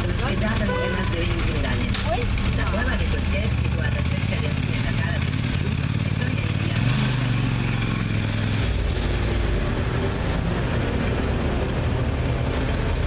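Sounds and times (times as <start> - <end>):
traffic: 0.0 - 13.0
vehicle engine running: 0.0 - 13.0.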